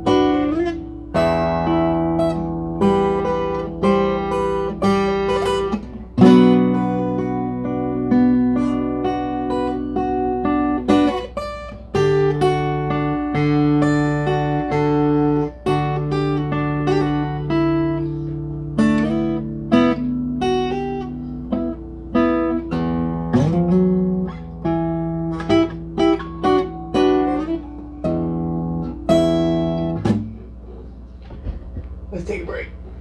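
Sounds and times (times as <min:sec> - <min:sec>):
solo guitar playing: 0:00.0 - 0:33.0.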